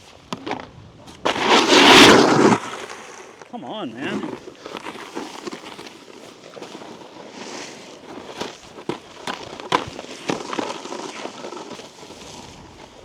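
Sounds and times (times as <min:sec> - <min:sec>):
snowboard scraping over icy snow: 0:00.0 - 0:13.0.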